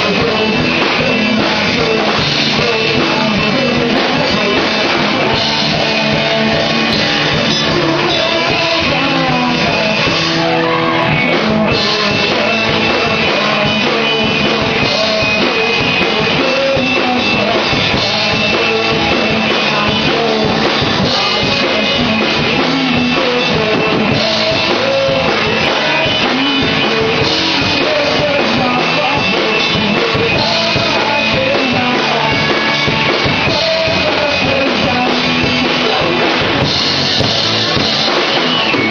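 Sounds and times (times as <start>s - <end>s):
drum kit: 0.0s - 38.9s
electric guitar: 0.0s - 38.9s
person singing: 0.0s - 38.9s.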